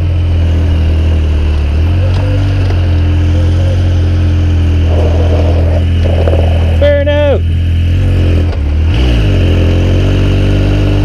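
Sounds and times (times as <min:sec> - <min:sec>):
towing vehicle engine running: 0:00.0 - 0:11.0.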